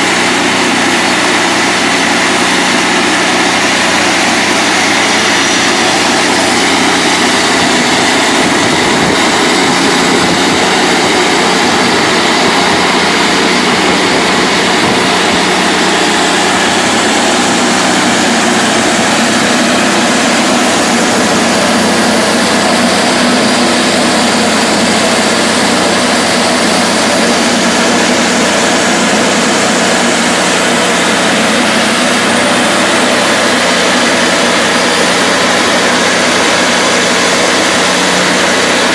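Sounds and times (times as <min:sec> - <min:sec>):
band saw cutting log: 0:00.0 - 0:38.9
engine drone: 0:00.0 - 0:38.9.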